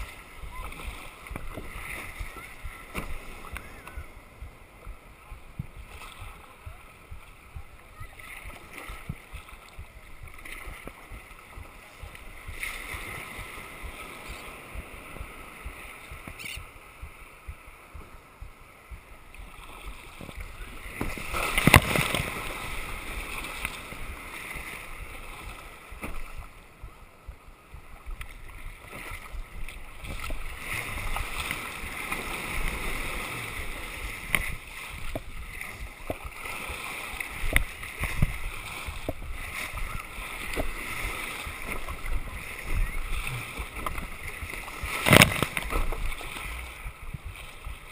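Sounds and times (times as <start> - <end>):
surf splashing around kayak: 0.0 - 47.9
wave splash: 0.0 - 47.9.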